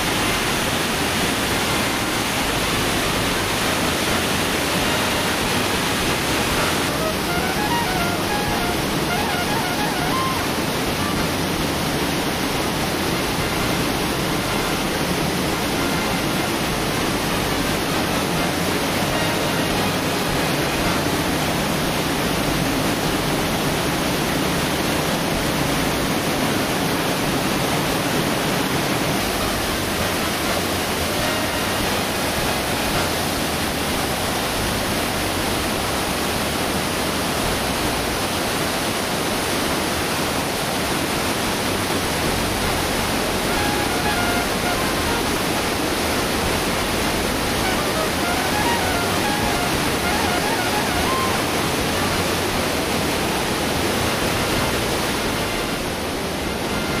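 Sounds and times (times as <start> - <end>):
river and waterfall rushing: 0.0 - 57.0.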